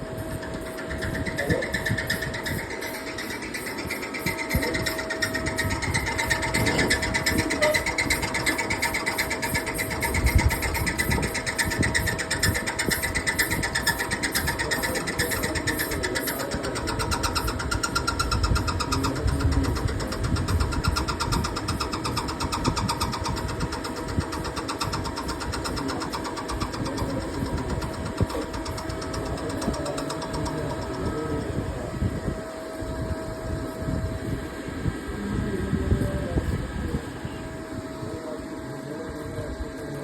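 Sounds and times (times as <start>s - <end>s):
machine humming and rattling: 0.0s - 40.0s.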